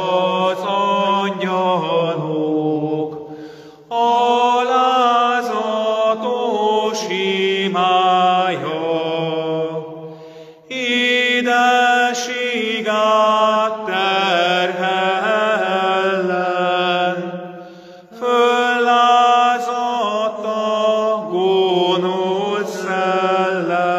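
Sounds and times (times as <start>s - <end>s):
man singing a hymn: 0.0s - 3.2s, 3.9s - 9.9s, 10.7s - 17.3s, 18.1s - 23.9s.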